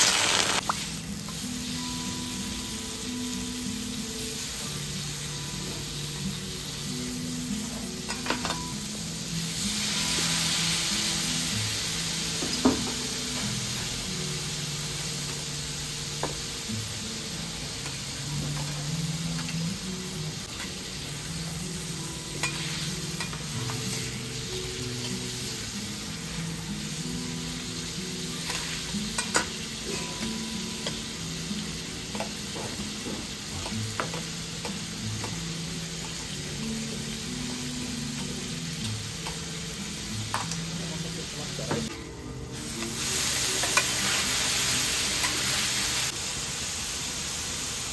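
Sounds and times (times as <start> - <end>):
shrimp sizzling on a griddle: 0.0 - 47.9.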